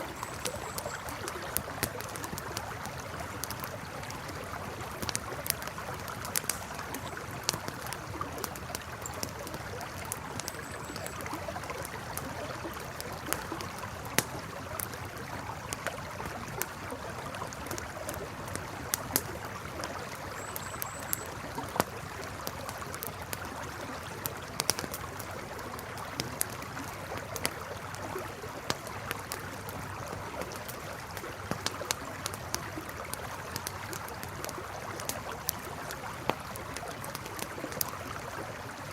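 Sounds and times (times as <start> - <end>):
campfire crackling and popping: 0.0 - 38.9
river water flowing: 0.0 - 38.9.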